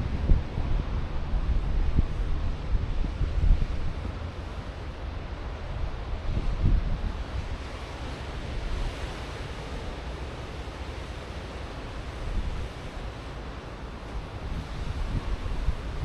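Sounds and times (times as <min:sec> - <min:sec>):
ocean surf on beach: 0:00.0 - 0:16.0
wind rumble on microphone: 0:00.0 - 0:16.0.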